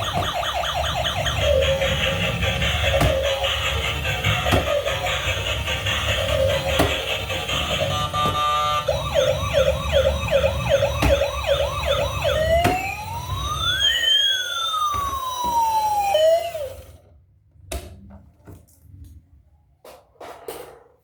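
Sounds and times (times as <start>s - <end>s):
emergency vehicle siren: 0.0s - 17.0s.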